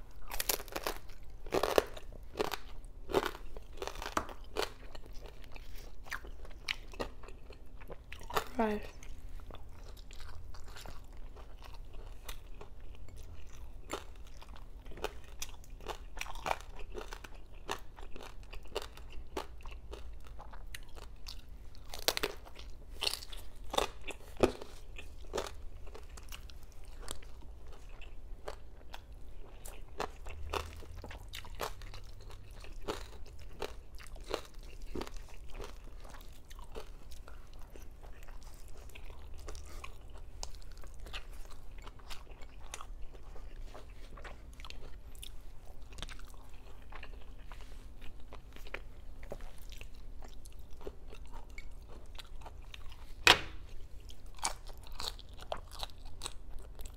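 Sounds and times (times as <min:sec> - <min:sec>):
crunching crispy pork: 0:00.1 - 0:56.9.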